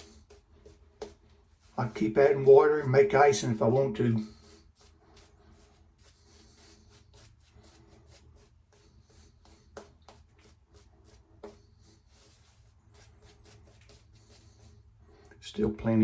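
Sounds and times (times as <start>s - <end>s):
shaving brush scrubbing: 0.0s - 15.3s.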